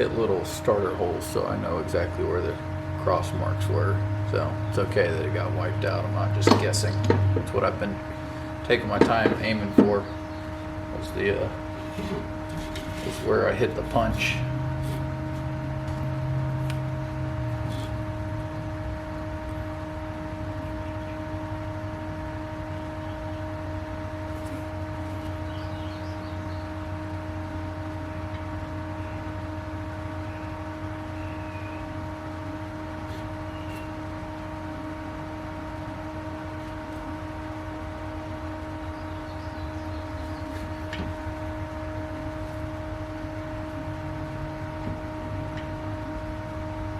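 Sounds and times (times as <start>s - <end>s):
drill press whine and hum: 0.0s - 46.9s.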